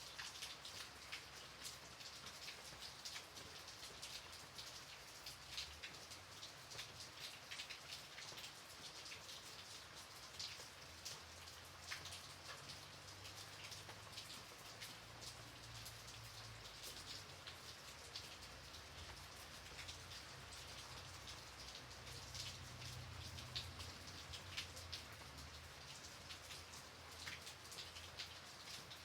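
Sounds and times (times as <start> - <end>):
gentle rain hiss: 0.0 - 29.0
raindrops ticking on a surface: 0.0 - 29.0.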